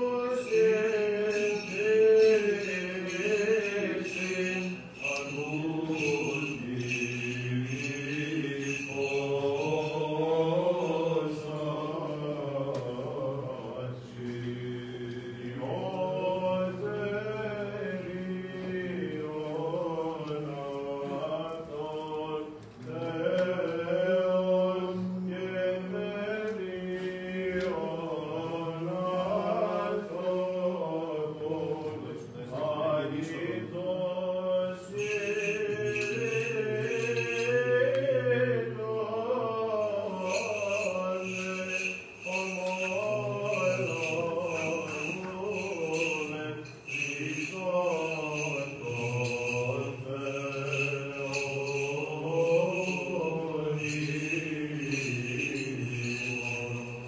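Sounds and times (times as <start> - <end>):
low held vocal drone: 0.0 - 57.0
male voices chanting: 0.0 - 57.0.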